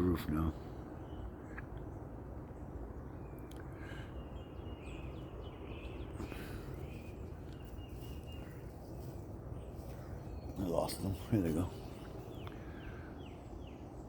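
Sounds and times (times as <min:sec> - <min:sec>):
small birds chirping: 0:00.0 - 0:14.0
steady low background noise: 0:00.0 - 0:14.0.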